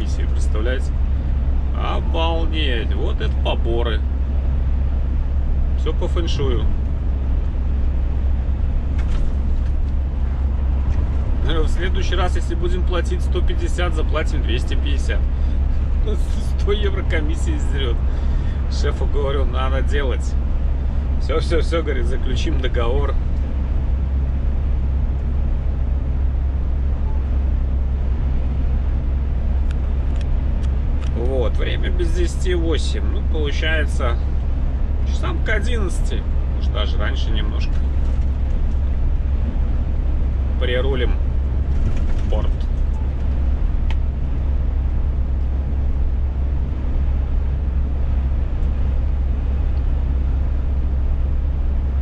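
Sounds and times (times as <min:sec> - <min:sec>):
truck engine and road noise: 0:00.0 - 0:52.0.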